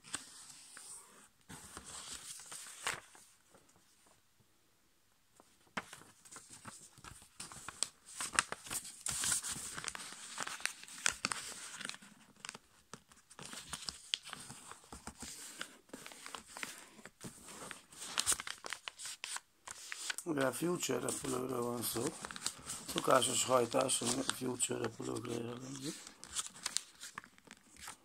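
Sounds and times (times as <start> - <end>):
paper rustling and crackling: 0.0 - 3.8, 5.6 - 28.0.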